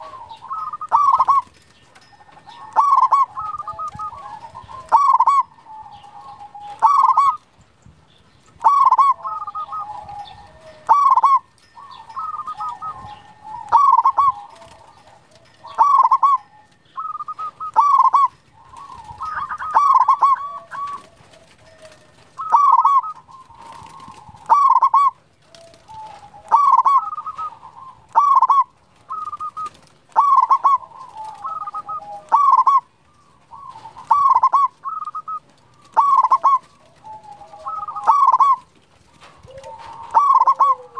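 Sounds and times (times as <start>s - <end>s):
dove cooing: 0.0s - 7.6s, 8.5s - 40.9s.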